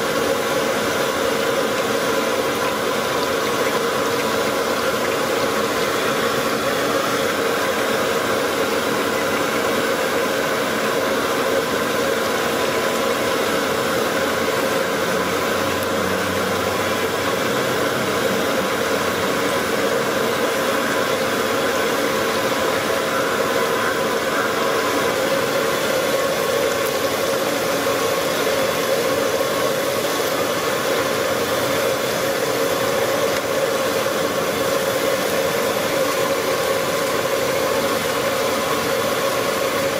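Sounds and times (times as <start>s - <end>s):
fish deep-frying in oil: 0.0s - 39.9s
gas burner rushing: 0.0s - 39.9s.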